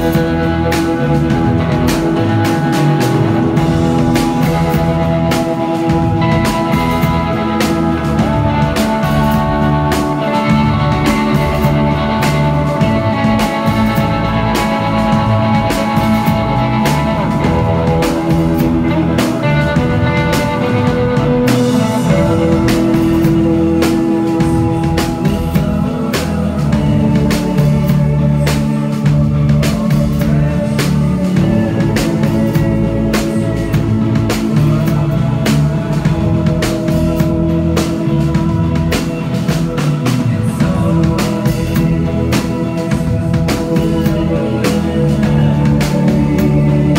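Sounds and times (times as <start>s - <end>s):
drum-kit beat: 0.0s - 46.9s
electric guitars: 0.0s - 46.9s
man singing: 0.0s - 46.9s.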